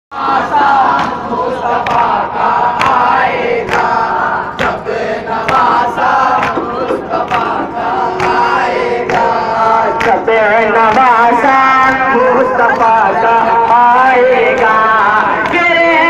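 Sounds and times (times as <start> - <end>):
crowd chanting: 0.1 - 16.0.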